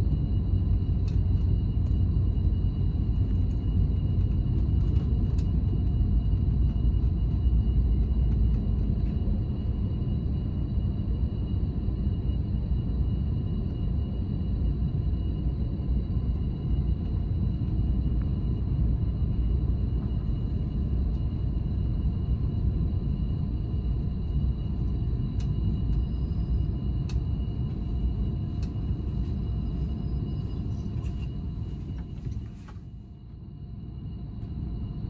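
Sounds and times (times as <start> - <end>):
faint whining tones: 0.0 - 35.0
train low rumble: 0.0 - 35.0.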